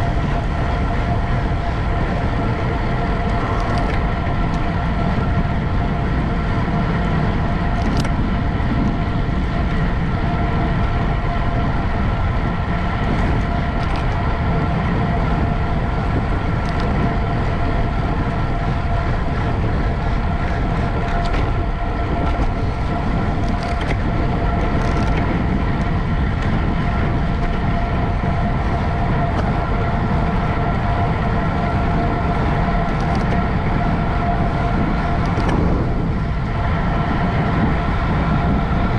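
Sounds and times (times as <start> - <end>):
high whine: 0.0 - 38.9
wind and road noise: 0.0 - 38.9.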